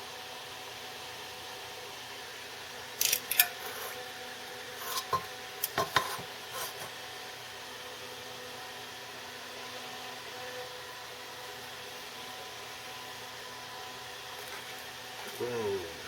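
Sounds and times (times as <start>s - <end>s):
fume extractor fan humming: 0.0s - 16.0s.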